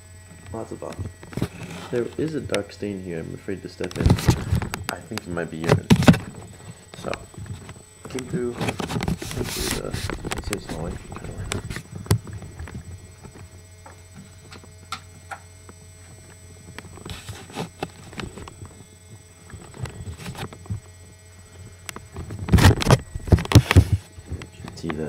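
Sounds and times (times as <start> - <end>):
low hum: 0.0 - 24.8.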